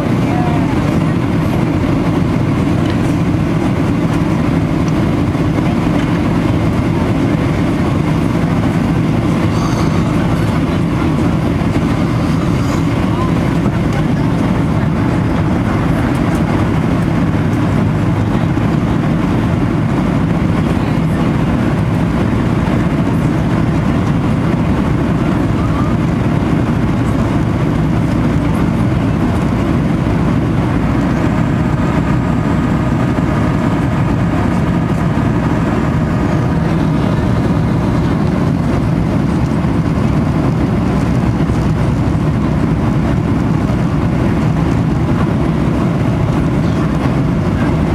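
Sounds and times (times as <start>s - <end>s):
airplane engines and airflow rumble: 0.0s - 47.9s.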